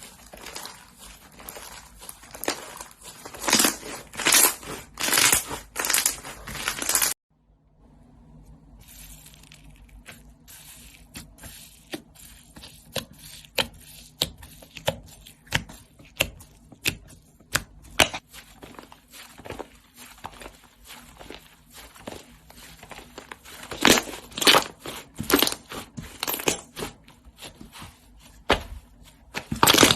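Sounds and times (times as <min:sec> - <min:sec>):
slime crunching and crackling: 0:00.0 - 0:07.2, 0:08.8 - 0:29.9.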